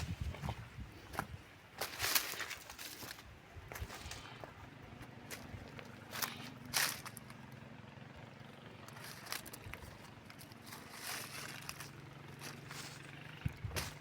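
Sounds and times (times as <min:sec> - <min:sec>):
footsteps on rough ground: 0:00.0 - 0:07.4, 0:08.8 - 0:14.0.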